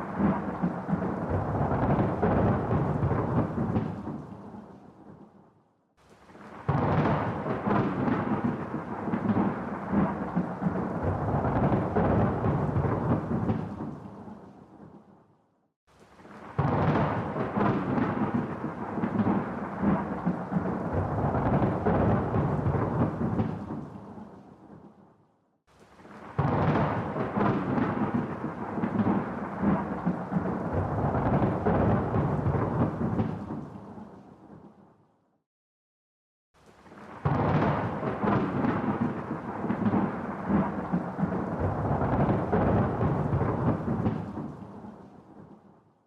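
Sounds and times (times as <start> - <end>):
rolling thunder: 0.0 - 5.2, 6.5 - 15.0, 16.4 - 24.9, 26.2 - 34.7, 36.9 - 45.5.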